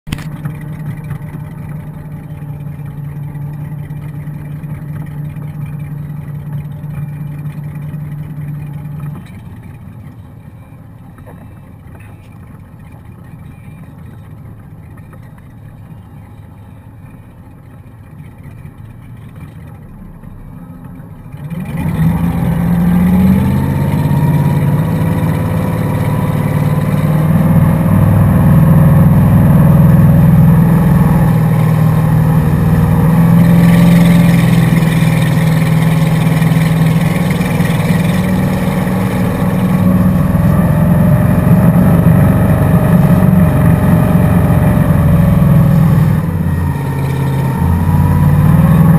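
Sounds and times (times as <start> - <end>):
motorboat engine: 0.0 - 48.9
water rushing in wake: 0.1 - 48.9.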